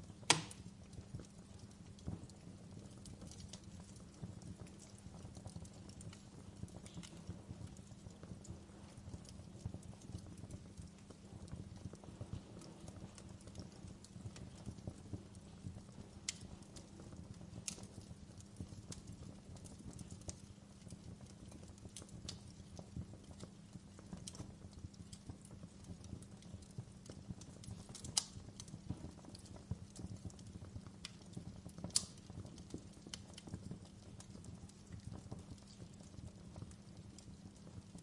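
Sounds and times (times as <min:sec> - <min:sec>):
loud fire snaps: 0:00.0 - 0:38.0
wood fire crackling: 0:00.0 - 0:38.0.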